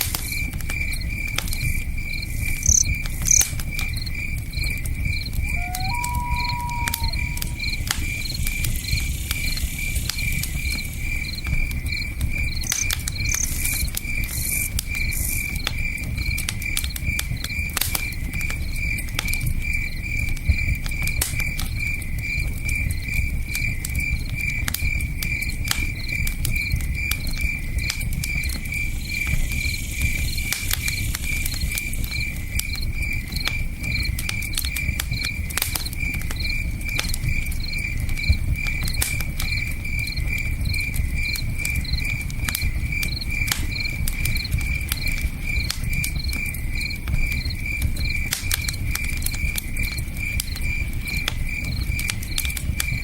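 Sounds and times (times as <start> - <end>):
campfire popping and crackling: 0.0 - 53.0
crickets chirping: 0.0 - 53.0.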